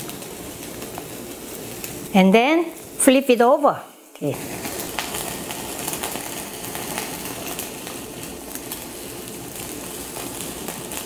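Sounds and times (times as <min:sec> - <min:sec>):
juice crackling in flame: 0:00.0 - 0:11.0
meat sizzling on grill: 0:00.0 - 0:11.0.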